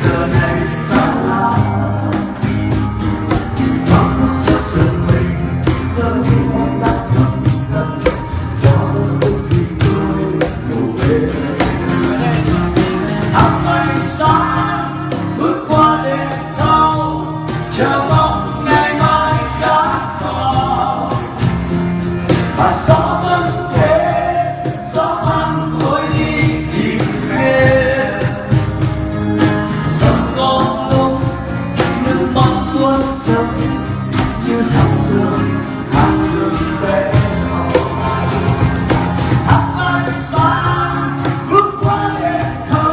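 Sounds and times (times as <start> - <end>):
man singing slow melody: 0.0 - 2.5, 3.8 - 21.4, 22.5 - 28.8, 29.8 - 38.6, 39.4 - 42.9
acoustic instrumental accompaniment: 0.0 - 42.9.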